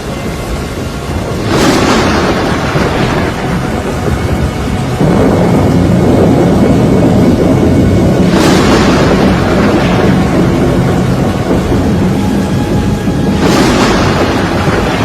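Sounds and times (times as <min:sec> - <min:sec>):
hissing rain: 0:00.0 - 0:15.0
hurricane wind rumble: 0:00.0 - 0:15.0.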